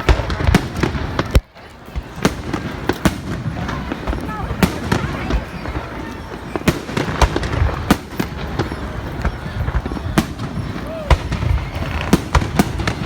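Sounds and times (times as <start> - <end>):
fireworks sharp bangs: 0.0 - 13.0
low rumble of fireworks bursts: 0.0 - 13.0.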